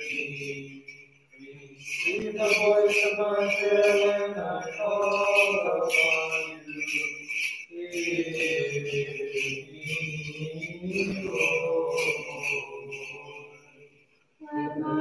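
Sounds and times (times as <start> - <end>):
censer bells jingling: 0.0 - 14.2
voices chanting a psalm: 0.0 - 15.0.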